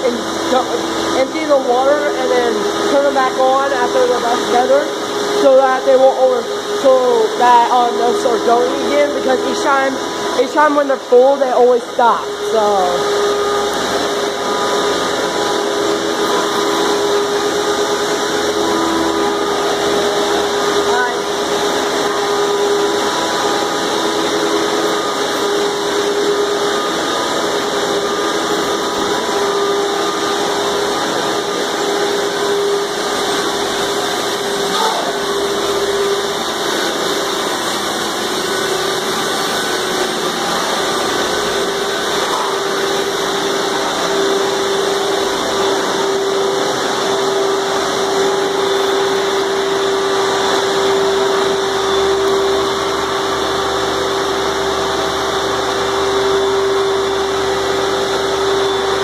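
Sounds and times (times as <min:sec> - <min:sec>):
shop vacuums droning: 0:00.0 - 0:59.0.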